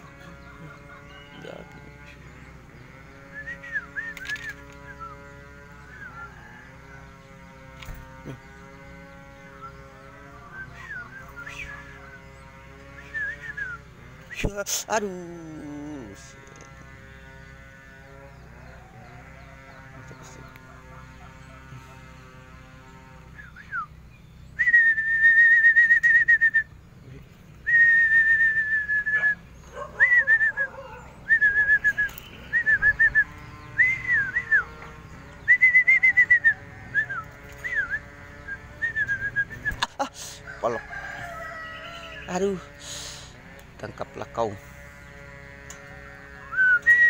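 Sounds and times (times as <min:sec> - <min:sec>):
caged bird calling loudly: 0:00.0 - 0:47.0.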